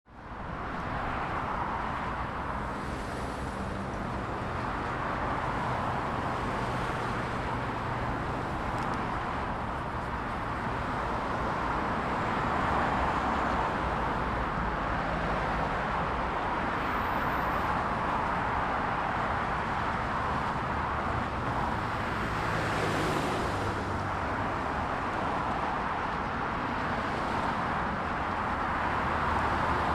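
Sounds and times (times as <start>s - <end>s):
dense motorway traffic: 0.0s - 29.9s.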